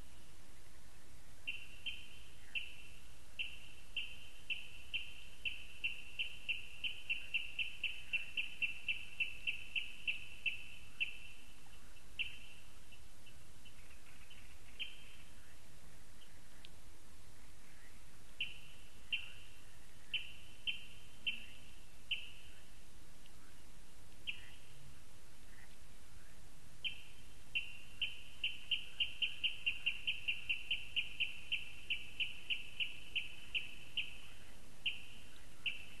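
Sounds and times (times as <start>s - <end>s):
faint hiss: 0.0s - 36.0s.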